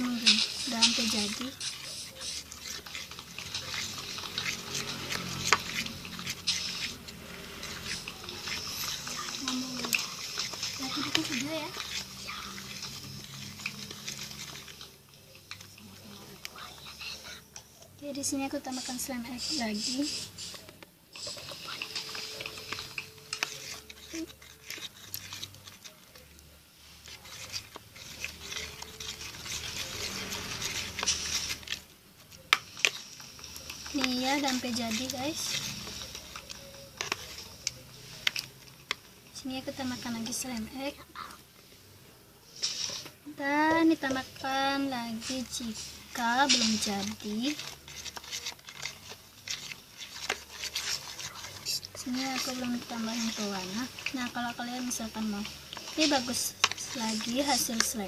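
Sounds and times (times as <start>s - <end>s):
slime being stirred: 0.0s - 58.0s.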